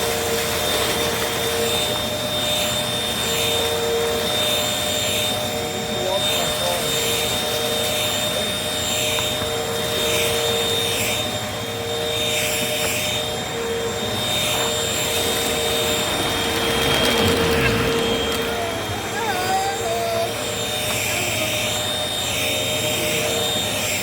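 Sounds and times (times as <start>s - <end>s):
vacuum cleaner motor whine: 0.0s - 24.0s.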